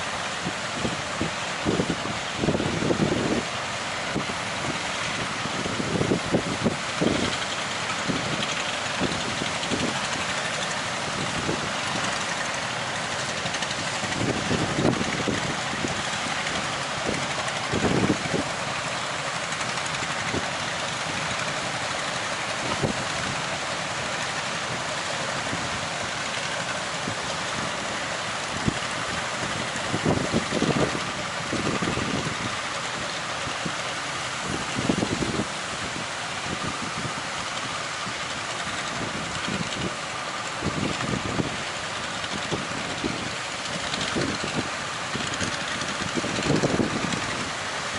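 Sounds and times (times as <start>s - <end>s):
sea surf: 0.0s - 47.9s
wind: 0.0s - 47.9s
wind buffeting microphone: 0.0s - 47.9s.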